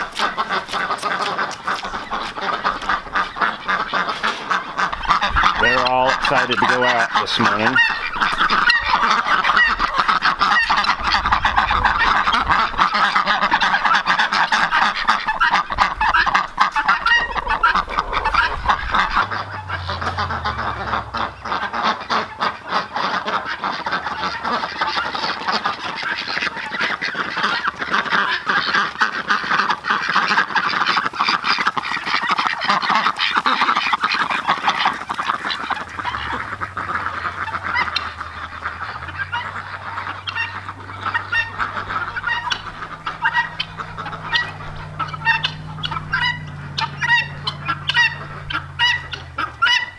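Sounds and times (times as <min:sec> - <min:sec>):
ducks and poultry calling: 0:00.0 - 0:49.9.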